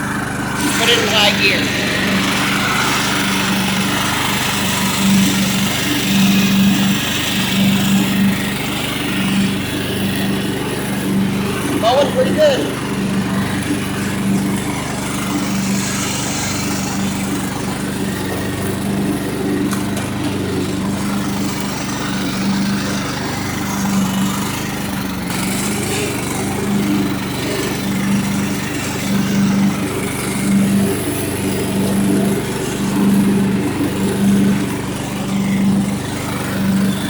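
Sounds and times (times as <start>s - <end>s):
lawn tractor engine mowing: 0.0s - 37.0s.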